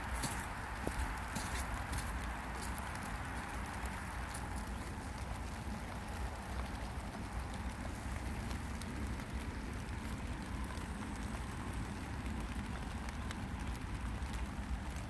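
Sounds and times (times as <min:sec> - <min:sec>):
light rain falling: 0:00.0 - 0:15.0
rain drop ticks: 0:00.0 - 0:15.0.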